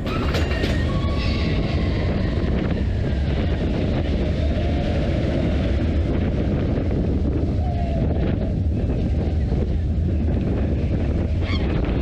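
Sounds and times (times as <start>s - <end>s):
roller coaster wheels rumbling: 0.0s - 12.0s
wind rushing over microphone: 0.0s - 12.0s.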